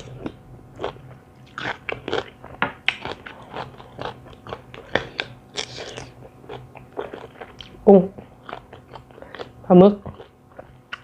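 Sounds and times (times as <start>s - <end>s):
person chewing crunchy vegetables: 0.0s - 11.0s.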